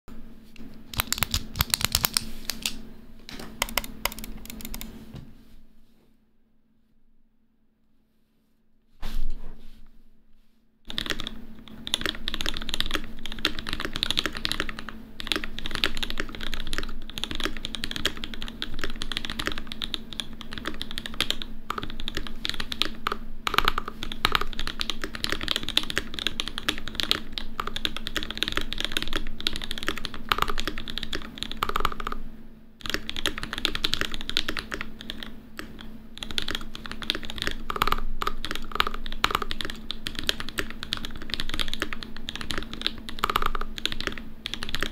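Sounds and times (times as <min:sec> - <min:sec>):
mechanical keyboard typing: 0:00.9 - 0:05.0, 0:10.9 - 0:32.2, 0:32.8 - 0:44.9.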